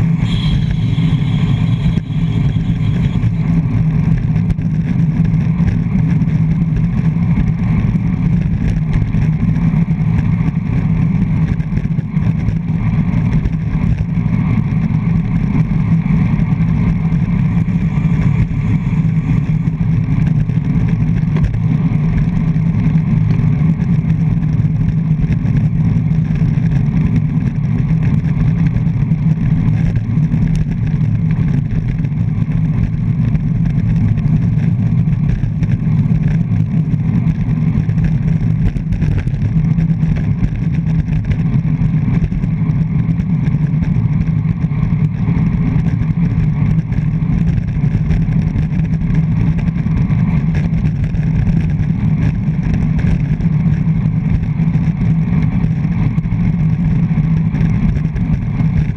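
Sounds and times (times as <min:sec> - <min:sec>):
wind rumble on microphone: 0:00.0 - 0:58.9.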